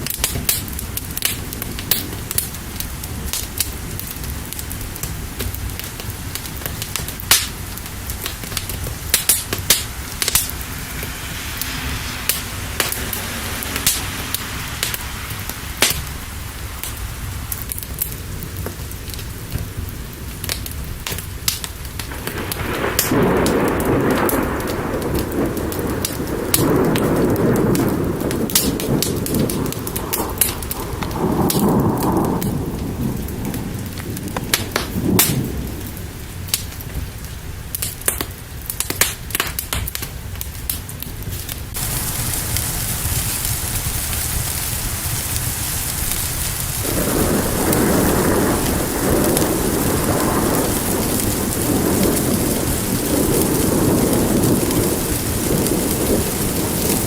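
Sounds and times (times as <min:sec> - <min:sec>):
steady rain: 0:00.0 - 0:57.0
thunder rumbling: 0:00.0 - 0:57.0
wood fire crackling: 0:00.0 - 0:57.0.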